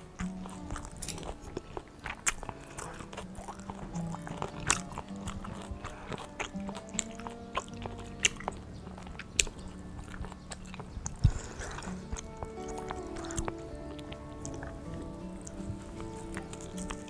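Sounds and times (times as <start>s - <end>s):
background music: 0.0s - 17.0s
person chewing crispy pancake: 0.0s - 17.0s
sharp crunches: 0.0s - 17.0s.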